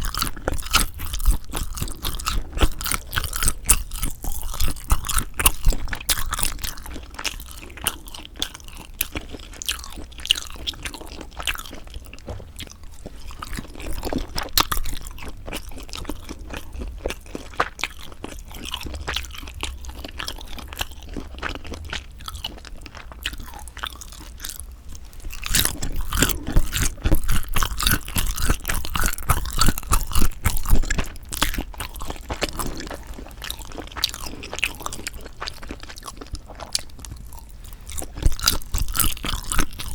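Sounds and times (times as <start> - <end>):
wet chewing and mouth smacks: 0.0 - 39.9.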